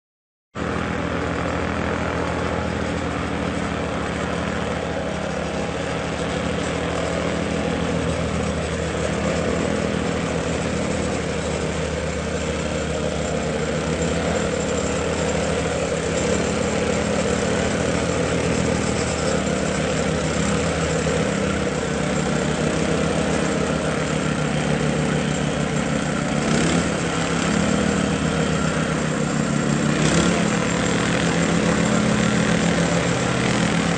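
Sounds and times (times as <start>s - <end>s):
plate compactor vibrating rattle: 0.6s - 33.9s
small engine droning: 0.6s - 33.9s.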